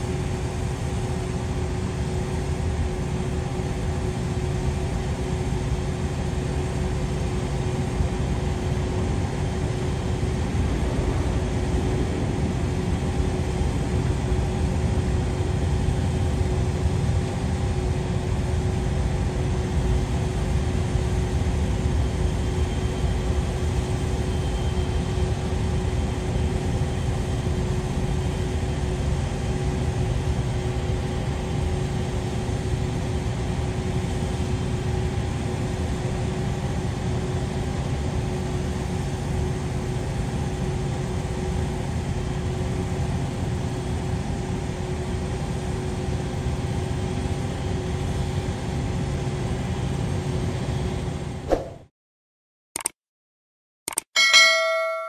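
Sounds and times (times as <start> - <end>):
jet engines whining at taxi power: 0.0 - 51.4.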